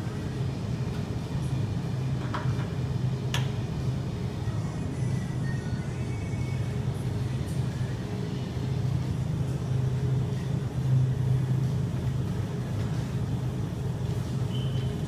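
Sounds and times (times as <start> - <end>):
refrigeration machinery hum: 0.0 - 15.0.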